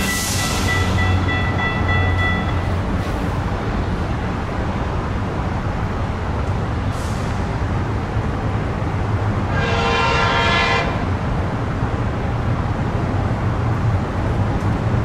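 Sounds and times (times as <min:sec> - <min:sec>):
distant train rumbling: 0:00.0 - 0:15.0.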